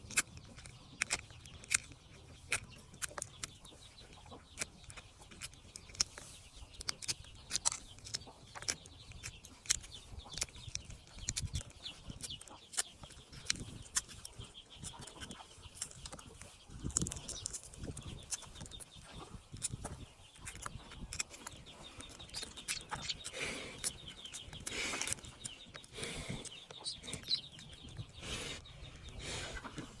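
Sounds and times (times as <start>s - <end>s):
sharp clicks: 0.0s - 29.4s
duckling peeping: 0.4s - 30.0s.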